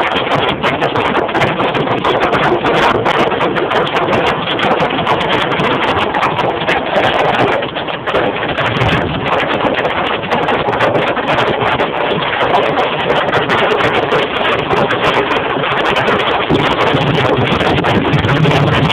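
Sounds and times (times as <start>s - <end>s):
hail hitting car roof: 0.0s - 18.9s.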